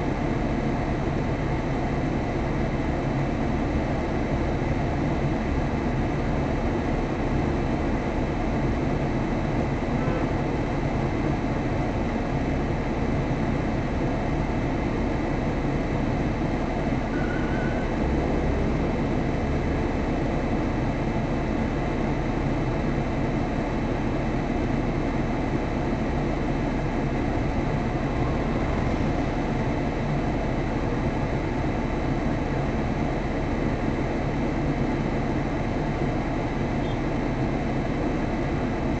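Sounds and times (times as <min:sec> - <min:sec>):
car engine idling inside cabin: 0:00.0 - 0:39.0.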